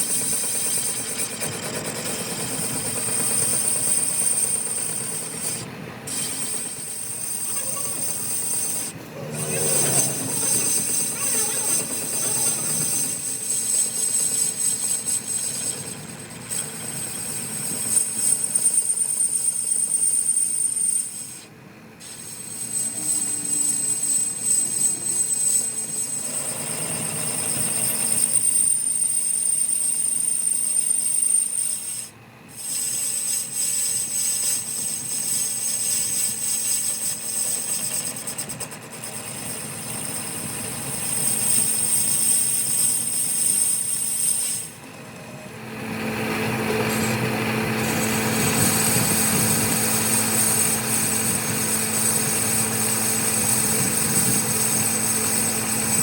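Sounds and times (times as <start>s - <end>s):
rasping metalworking noise: 0.0s - 56.0s
thin high whine: 0.0s - 56.0s.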